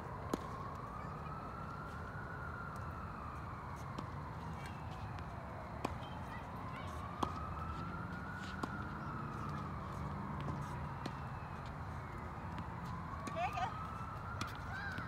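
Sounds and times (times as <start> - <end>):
distant siren wailing: 0.0 - 15.0.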